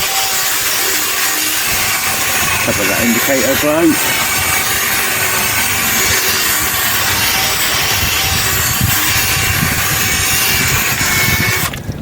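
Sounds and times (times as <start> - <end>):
plastic lens buffing: 0.0 - 11.8.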